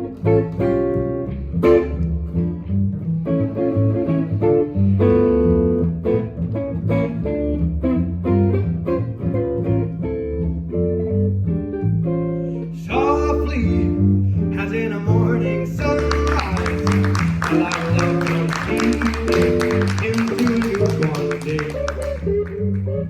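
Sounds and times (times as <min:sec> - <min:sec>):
bass low notes: 0:00.0 - 0:23.0
plucked jazz guitar: 0:00.0 - 0:23.0.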